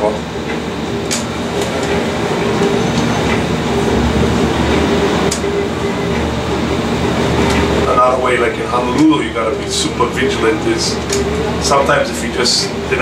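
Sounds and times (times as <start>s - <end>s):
crane machinery drone: 0.0s - 13.0s.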